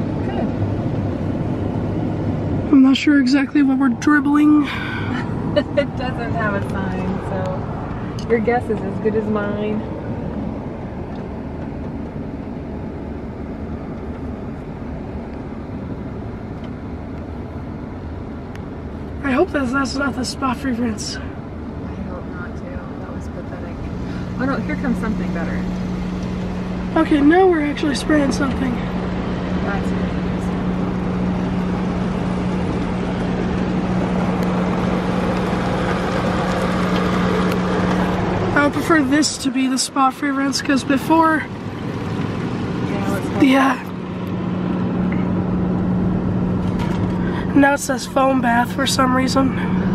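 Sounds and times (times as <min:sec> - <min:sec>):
car wash machinery rumble: 0:00.0 - 0:49.9
constant low hum: 0:00.0 - 0:49.9.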